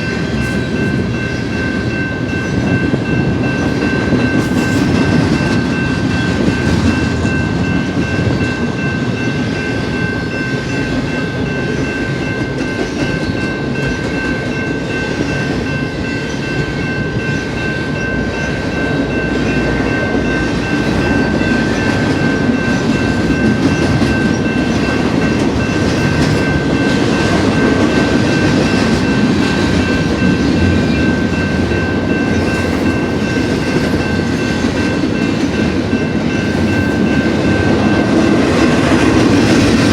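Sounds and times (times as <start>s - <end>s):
train wheels clattering on rail: 0.0s - 39.9s.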